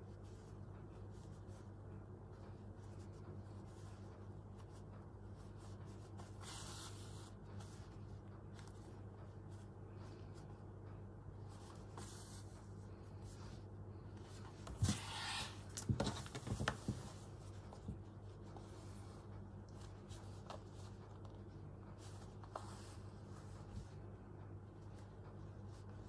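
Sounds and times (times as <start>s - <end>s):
steady low hum: 0.0s - 26.0s
fabric rustling: 2.3s - 10.7s, 11.3s - 24.0s.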